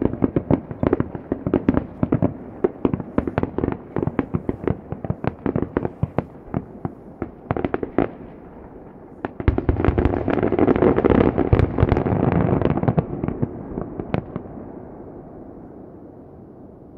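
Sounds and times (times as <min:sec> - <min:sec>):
distant fireworks bursting: 0:00.0 - 0:15.9.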